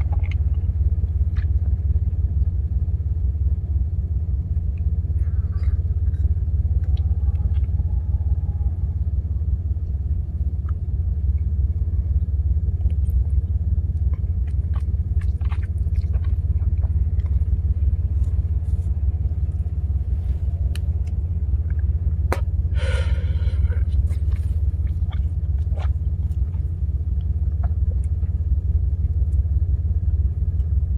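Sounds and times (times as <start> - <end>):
truck rumble inside cab: 0.0 - 30.9.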